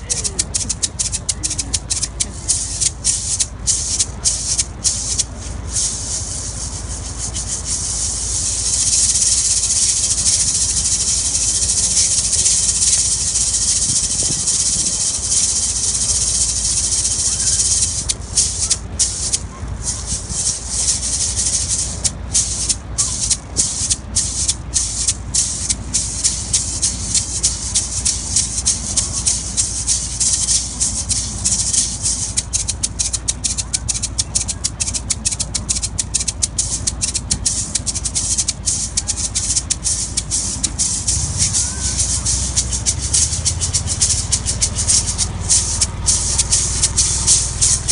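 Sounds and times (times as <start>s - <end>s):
maracas shaking: 0.0s - 47.9s.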